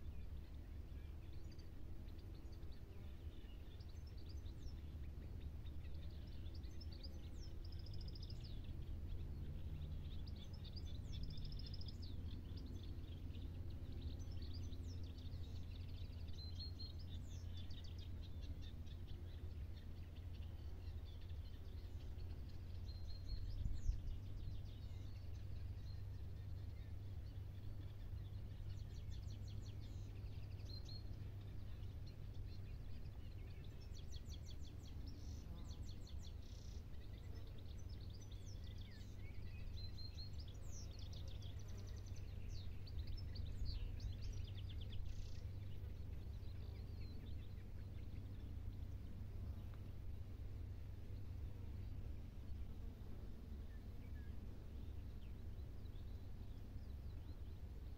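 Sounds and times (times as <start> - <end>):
small birds chirping and trilling: 0.0 - 57.9
steady low rumble: 0.0 - 57.9.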